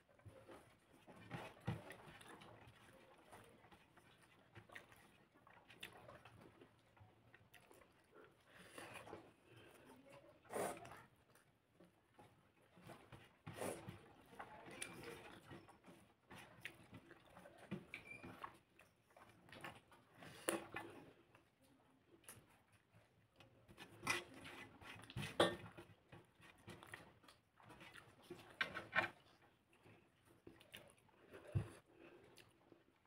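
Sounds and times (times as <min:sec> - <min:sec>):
fingers mixing food on plate: 0:00.0 - 0:33.0
chewing and mouth smacks: 0:00.2 - 0:09.9, 0:14.7 - 0:33.0.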